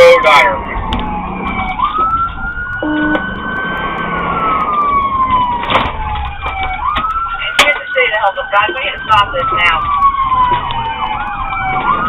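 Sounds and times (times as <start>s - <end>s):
car engine and road noise: 0.0s - 12.0s
police siren wailing: 0.0s - 12.0s.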